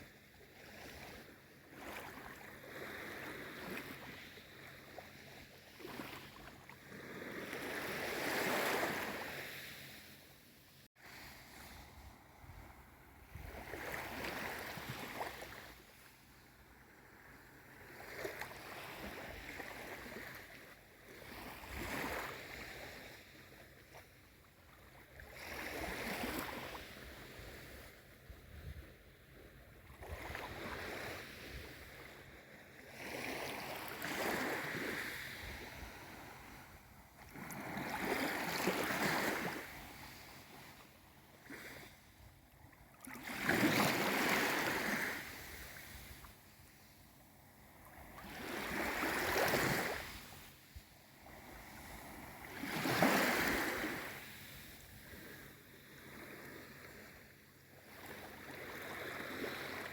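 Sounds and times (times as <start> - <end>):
small waves lapping: 0.0 - 59.9.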